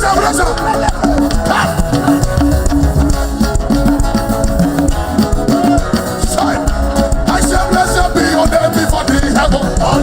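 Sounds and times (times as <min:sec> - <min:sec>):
band music with drums: 0:00.0 - 0:10.0
repeating low riff: 0:00.4 - 0:09.9.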